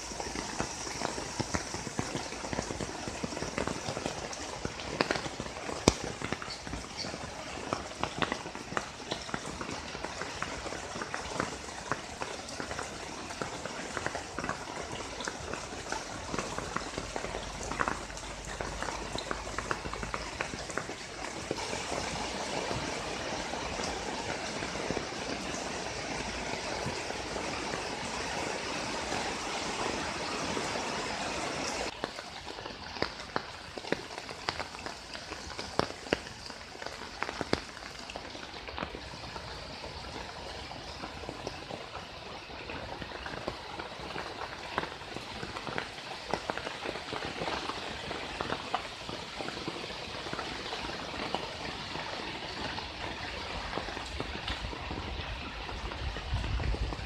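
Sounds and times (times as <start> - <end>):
heavy rain hissing: 0.0 - 57.0
raindrops ticking and splashing: 0.0 - 57.0.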